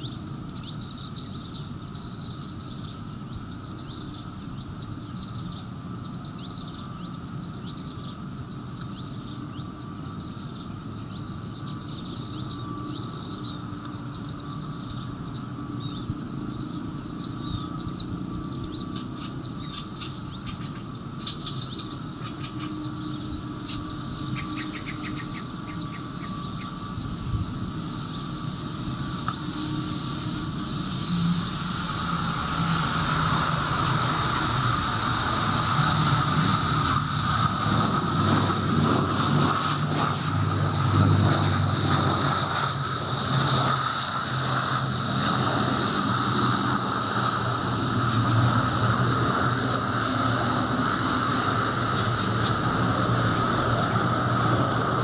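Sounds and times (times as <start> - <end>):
turboprop plane engines whining: 0.0 - 55.0.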